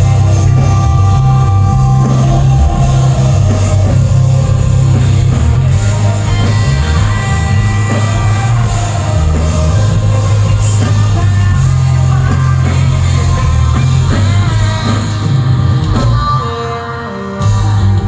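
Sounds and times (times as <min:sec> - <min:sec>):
live heavy rock band: 0:00.0 - 0:18.0
sung lead vocal: 0:00.0 - 0:18.0.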